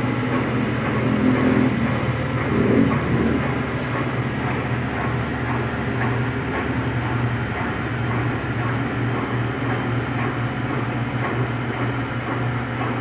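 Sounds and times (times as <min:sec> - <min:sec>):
washing machine spinning down: 0:00.0 - 0:13.0.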